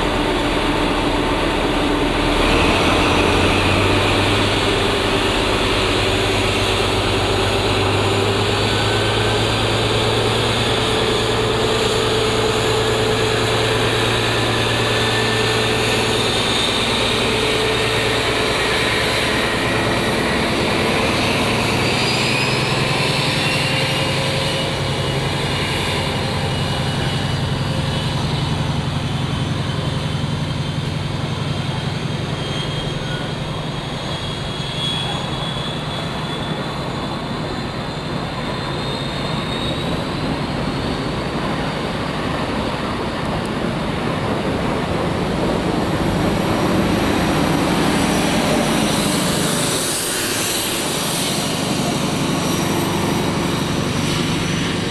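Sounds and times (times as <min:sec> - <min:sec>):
diesel engine drone: 0:00.0 - 0:54.9
turbocharger whine: 0:00.0 - 0:54.9.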